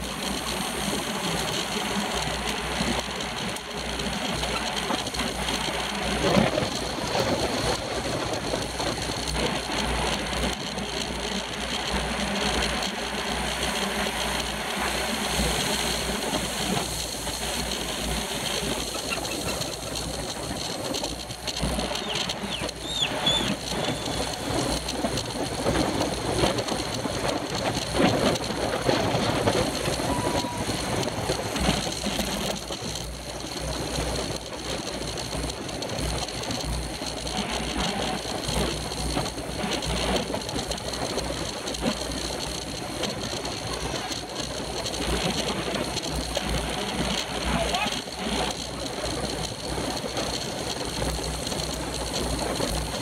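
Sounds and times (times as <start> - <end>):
whir of bicycle tyres: 0.0 - 53.0
wind rumble on microphone: 0.0 - 53.0.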